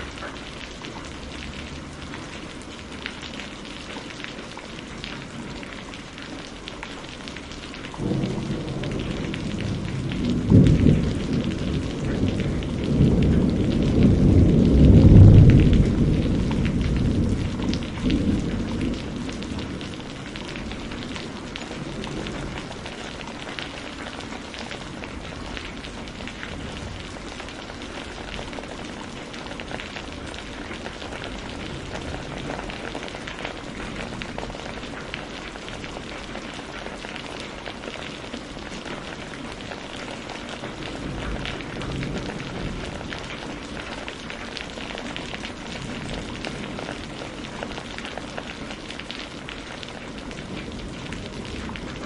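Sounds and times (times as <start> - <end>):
steady rain patter: 0.0 - 52.0.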